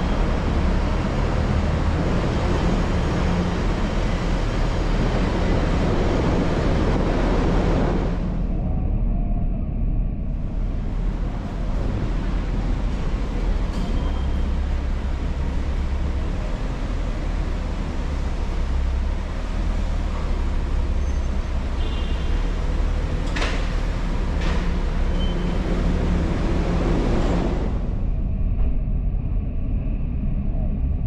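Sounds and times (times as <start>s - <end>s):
road noise hiss: 0.0s - 8.4s, 10.4s - 28.0s
car driving rumble: 0.0s - 31.0s.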